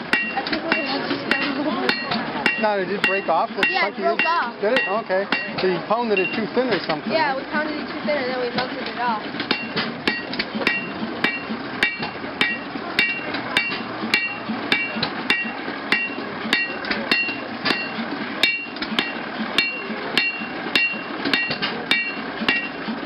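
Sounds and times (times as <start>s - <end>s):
anvil ringing: 0.0s - 6.9s, 9.4s - 22.8s
hammer forging metal on anvil: 0.0s - 7.0s, 8.5s - 23.0s.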